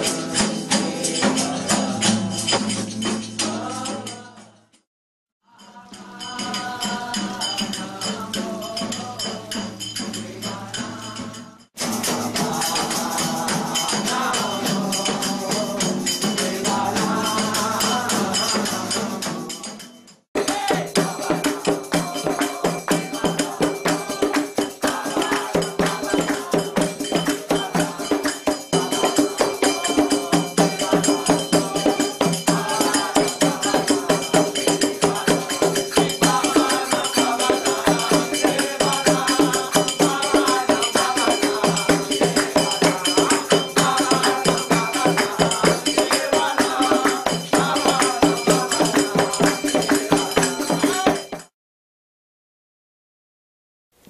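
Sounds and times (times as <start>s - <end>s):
voices singing: 0.0s - 4.7s, 5.4s - 51.5s
hand percussion rattle: 0.0s - 4.8s, 5.6s - 51.5s.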